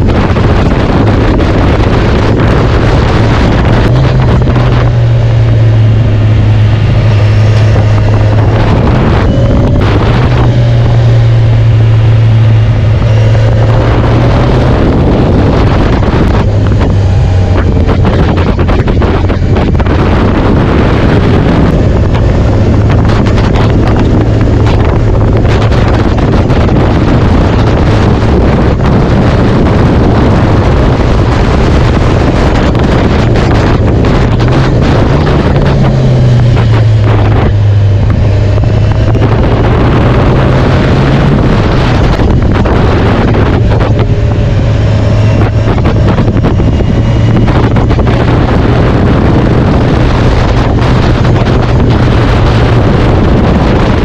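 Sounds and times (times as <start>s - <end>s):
vehicle engine droning: 0.0s - 54.0s
wind buffeting microphone: 0.0s - 54.0s.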